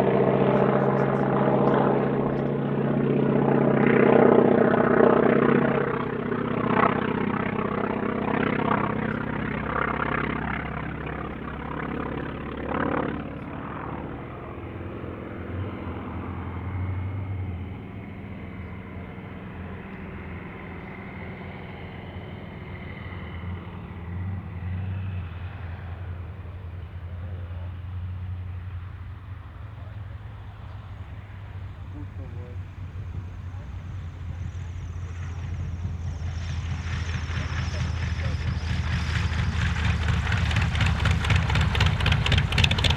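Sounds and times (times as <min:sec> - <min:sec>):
aircraft radial engine drone: 0:00.0 - 0:42.9.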